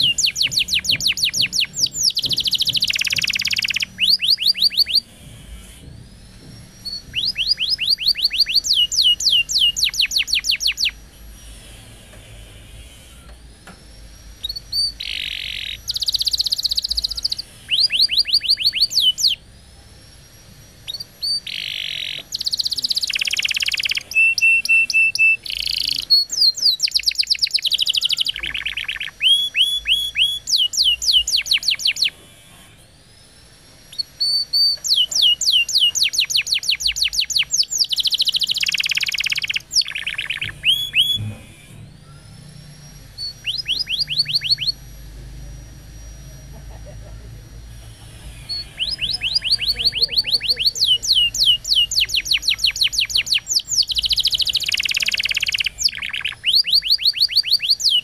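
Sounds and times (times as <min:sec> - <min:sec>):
canary singing trills: 0:00.0 - 0:19.5, 0:20.1 - 0:58.0.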